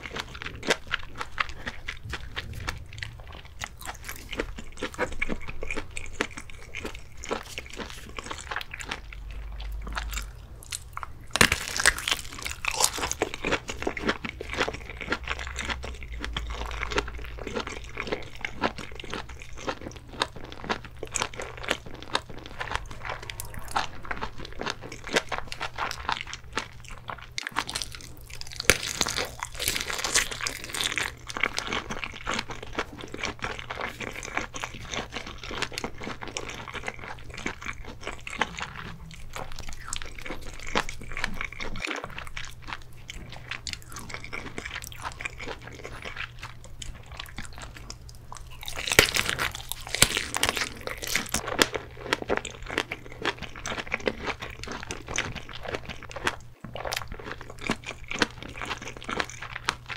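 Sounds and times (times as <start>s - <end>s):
chewing and biting crackles: 0.0s - 59.9s.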